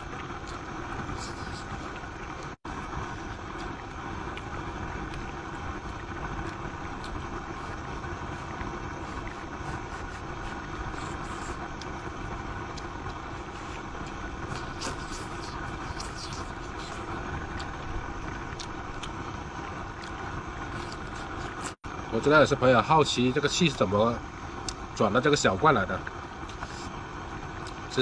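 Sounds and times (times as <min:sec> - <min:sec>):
gas burner rushing: 0:00.0 - 0:28.0.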